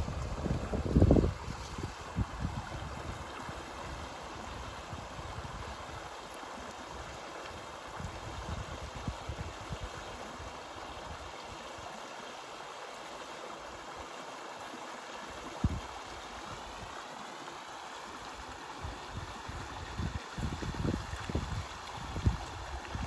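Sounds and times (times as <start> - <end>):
stream running over rocks: 0.0 - 23.0.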